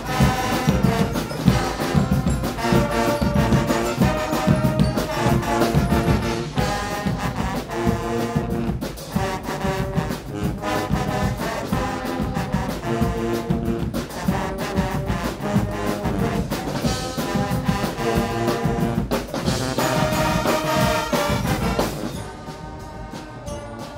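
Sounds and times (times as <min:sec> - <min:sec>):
big bass drum beating: 0:00.0 - 0:23.9
brass band playing: 0:00.0 - 0:23.9.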